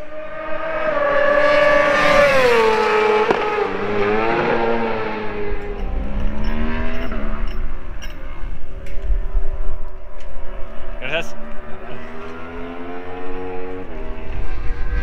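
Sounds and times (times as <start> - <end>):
motorcycle passing at speed: 0.0 - 15.0.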